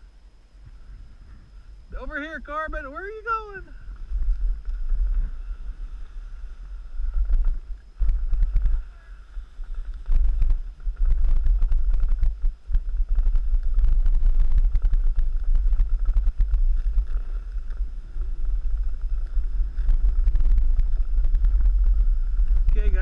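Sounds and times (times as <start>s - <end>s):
wind buffeting microphone: 0.0s - 23.0s
snowboard scraping over snow: 3.4s - 23.0s.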